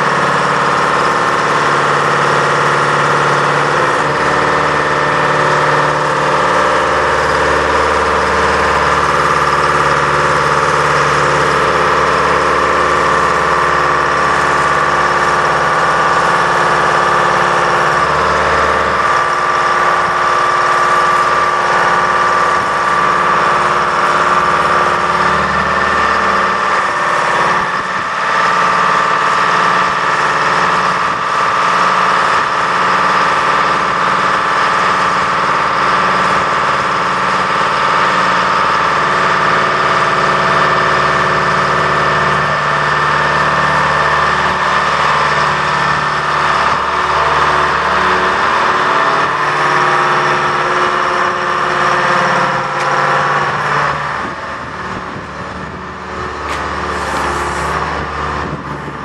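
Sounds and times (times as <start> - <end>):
diesel engine running: 0.0 - 59.0
steady high whine: 0.0 - 59.0.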